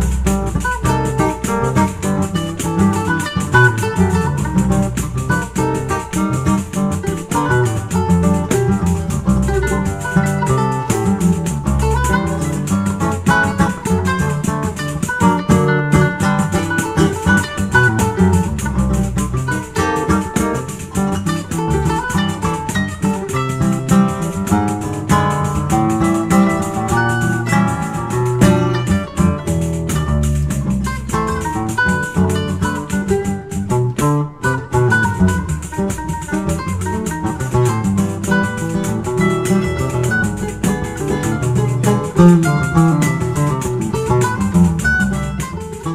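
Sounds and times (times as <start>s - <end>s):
mandolin melody: 0.0s - 45.9s
nylon-string guitar: 0.0s - 45.9s
tambourine rattling rhythm: 0.0s - 45.9s.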